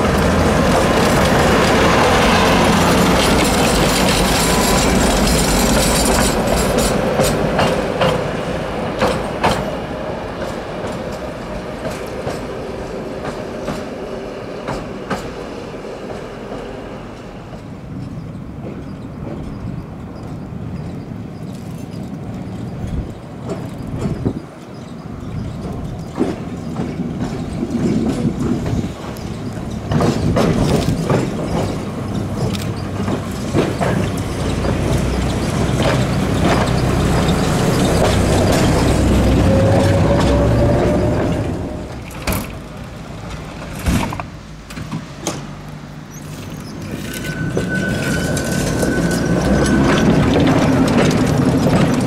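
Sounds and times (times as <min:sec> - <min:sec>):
tram motor whine: 0:00.0 - 0:43.8, 0:46.7 - 0:52.0
tram wheels rumbling on rails: 0:00.0 - 0:52.0.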